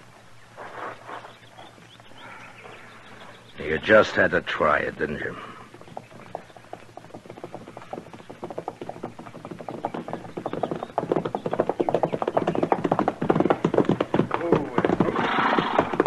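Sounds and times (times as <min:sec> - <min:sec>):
horses' hoofbeats at a fast gait: 0:01.1 - 0:16.0.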